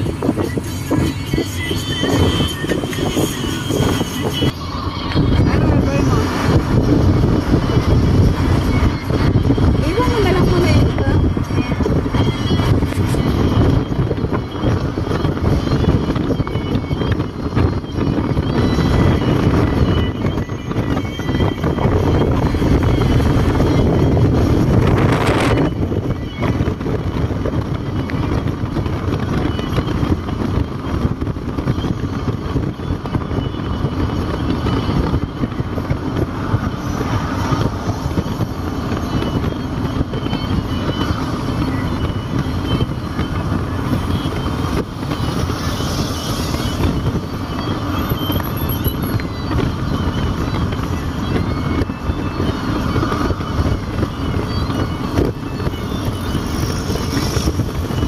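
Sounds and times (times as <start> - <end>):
tyre and engine rumble in car: 0.0 - 58.0.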